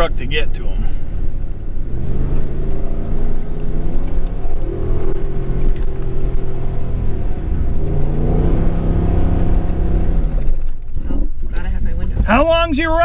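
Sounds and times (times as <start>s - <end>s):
pickup truck engine revving: 0.0s - 10.6s.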